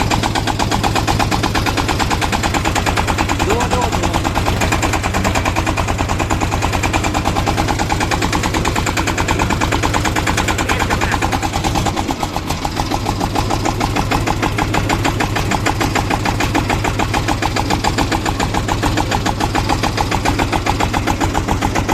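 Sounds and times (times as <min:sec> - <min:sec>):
tractor diesel engine running: 0:00.0 - 0:21.9.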